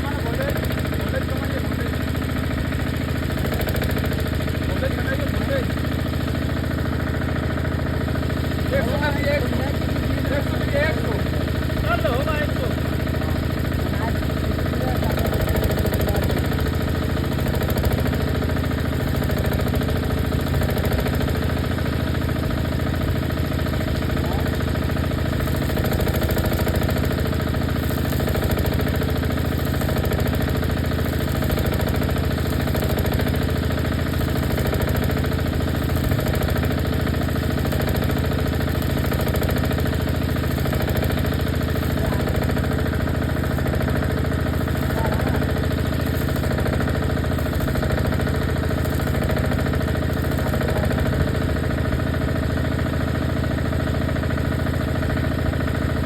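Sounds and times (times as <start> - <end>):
steady machine drone: 0.0 - 56.0.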